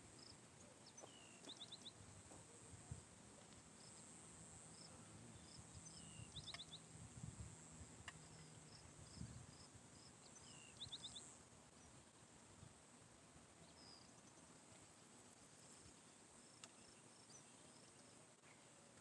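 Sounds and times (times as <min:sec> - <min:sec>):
faint birdsong chirps: 0:00.0 - 0:12.2, 0:13.4 - 0:19.0
insects droning: 0:00.0 - 0:19.0.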